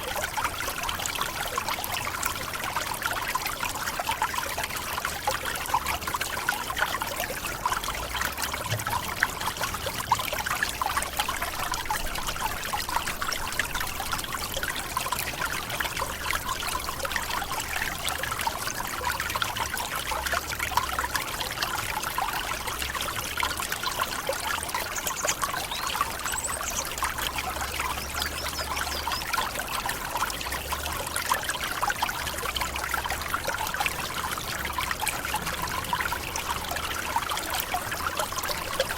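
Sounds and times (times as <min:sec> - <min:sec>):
waterfall splashing and trickling: 0:00.0 - 0:38.9.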